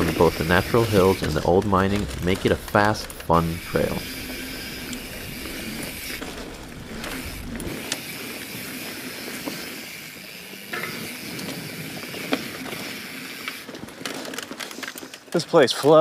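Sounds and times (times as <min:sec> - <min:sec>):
freewheel hub buzzing: 0:00.0 - 0:13.8
tyres rolling on dirt trail: 0:00.0 - 0:16.0.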